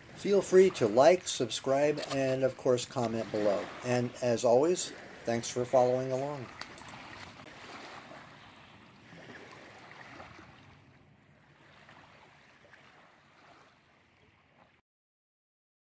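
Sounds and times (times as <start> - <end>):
small waves lapping on gravel: 0.0 - 14.8.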